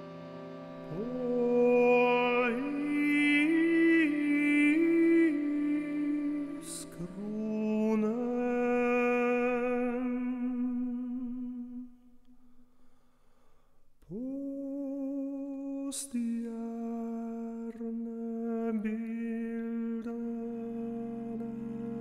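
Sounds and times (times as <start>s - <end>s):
person humming long notes: 0.0s - 11.9s, 14.1s - 22.0s.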